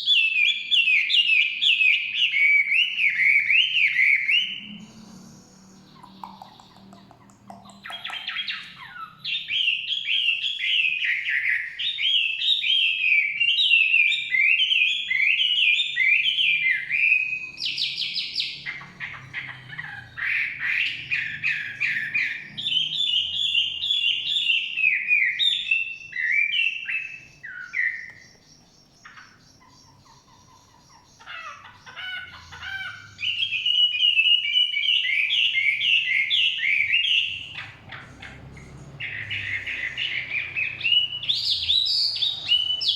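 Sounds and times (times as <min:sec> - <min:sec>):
bird singing whistled phrases: 0:00.0 - 0:28.4, 0:32.1 - 0:38.4, 0:39.0 - 0:42.9.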